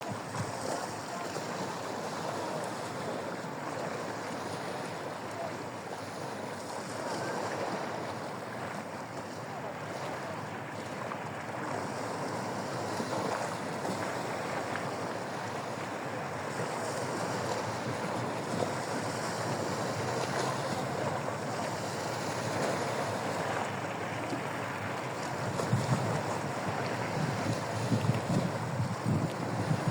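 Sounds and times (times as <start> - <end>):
water waves washing: 0.0 - 29.9.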